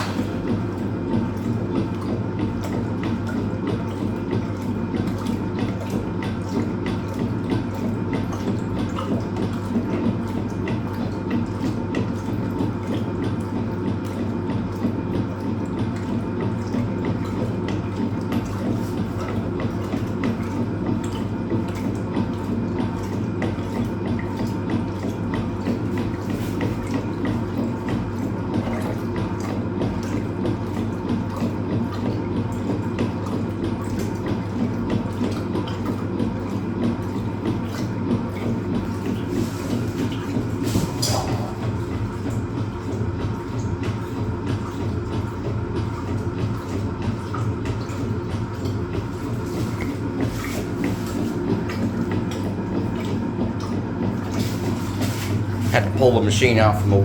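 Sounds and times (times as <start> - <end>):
low motor hum: 0.0 - 57.0
water splashing into drum: 0.0 - 57.0.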